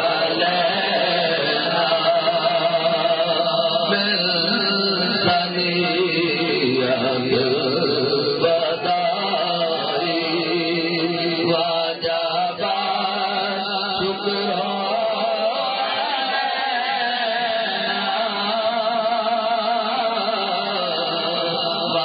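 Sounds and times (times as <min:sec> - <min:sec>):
men chanting together: 0:00.0 - 0:05.6, 0:08.4 - 0:22.0.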